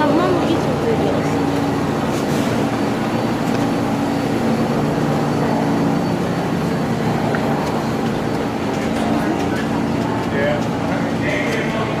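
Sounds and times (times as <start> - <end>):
subway wheels rumbling on rails: 0.0 - 12.0.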